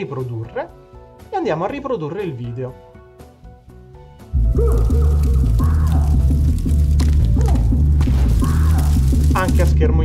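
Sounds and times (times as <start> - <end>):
bass-heavy cinematic music: 0.0 - 10.0.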